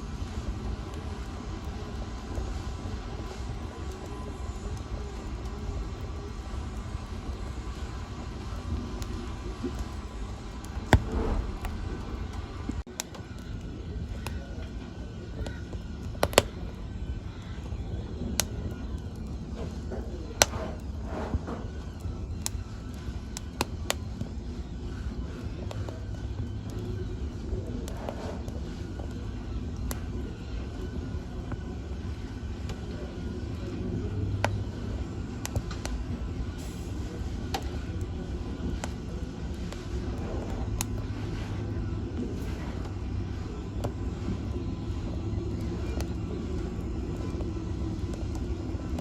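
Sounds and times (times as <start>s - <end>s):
fire crackling: 0.0s - 49.0s
fire pops: 0.0s - 49.0s
low rumble: 0.0s - 49.0s.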